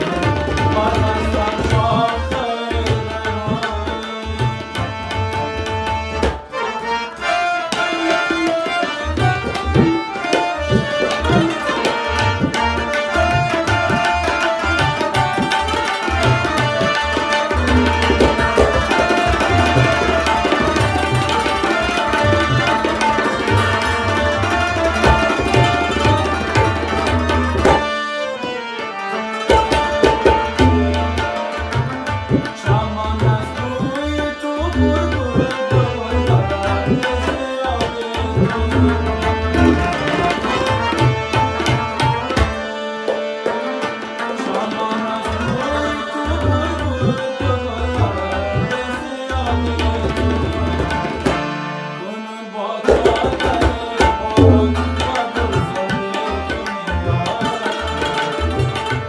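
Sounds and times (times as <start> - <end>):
harmonium melody: 0.0 - 59.0
rubab playing: 0.0 - 59.0.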